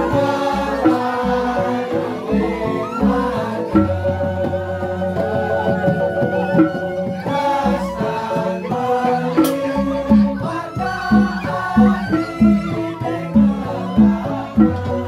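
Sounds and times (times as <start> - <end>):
gamelan music: 0.0 - 15.0
hand drum strokes: 0.0 - 15.0
metallophone melody: 0.0 - 15.0.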